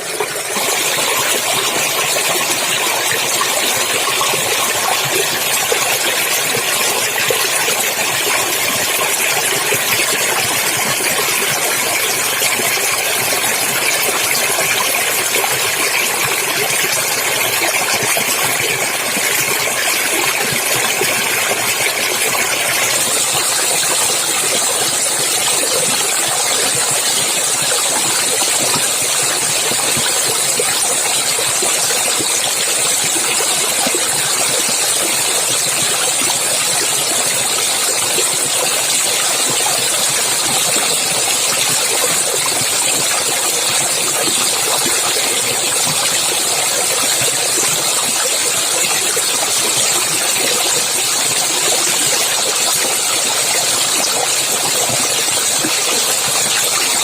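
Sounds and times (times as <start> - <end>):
stream water flowing and splashing: 0.0 - 57.0.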